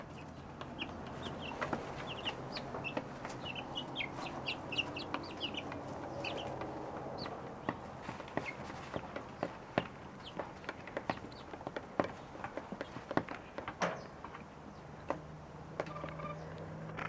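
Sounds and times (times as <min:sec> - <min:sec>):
chicks peeping: 0:00.0 - 0:15.2.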